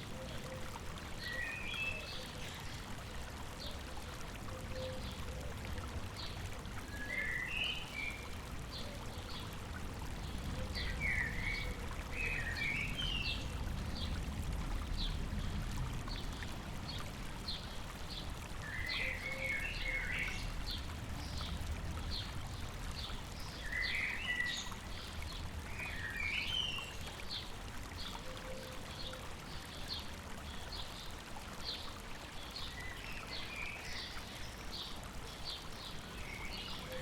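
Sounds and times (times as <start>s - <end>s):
stream running: 0.0s - 37.0s.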